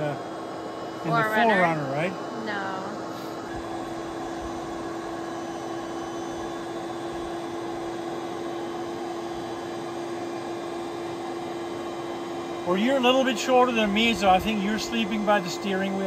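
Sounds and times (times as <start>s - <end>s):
electric air pump humming: 0.0s - 16.0s.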